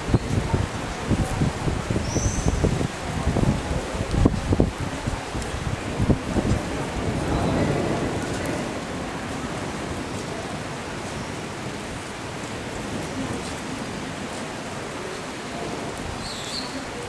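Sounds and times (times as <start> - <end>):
rain falling on stone pavement: 0.0 - 17.0.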